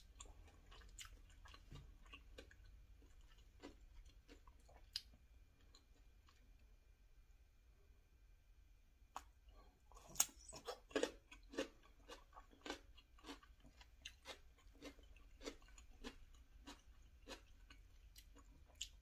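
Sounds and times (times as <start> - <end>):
person chewing crunchy food: 0.0 - 6.5, 9.2 - 19.0.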